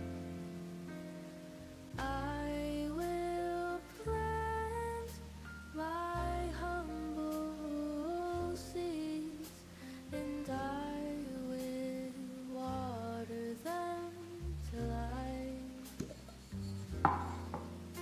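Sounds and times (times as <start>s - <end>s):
sustained low bass notes: 0.0s - 18.0s.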